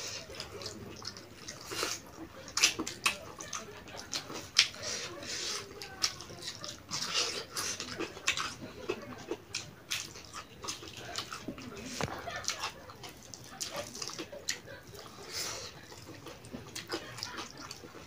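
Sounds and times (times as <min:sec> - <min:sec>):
chewing: 0:00.0 - 0:18.0
lip smacking: 0:00.0 - 0:18.0.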